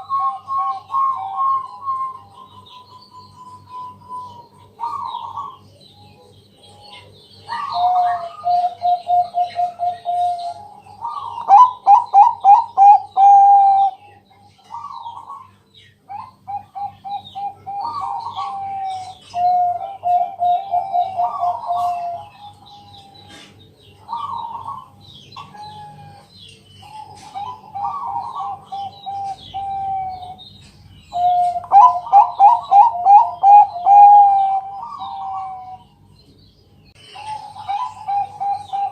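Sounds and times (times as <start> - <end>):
dove cooing: 0.0 - 30.5, 31.1 - 36.0, 37.0 - 38.9.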